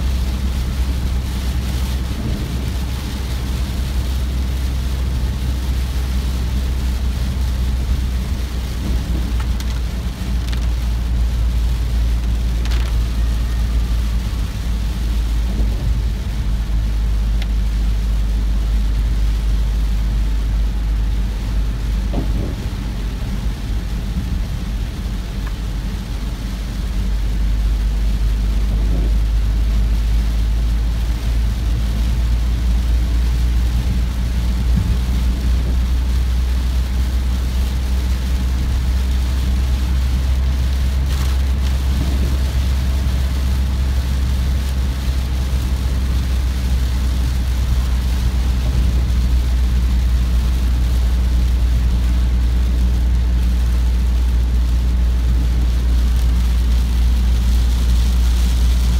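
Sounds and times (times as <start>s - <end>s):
car driving on wet road: 0.0s - 58.9s
torrential rain on vehicle: 0.0s - 58.9s.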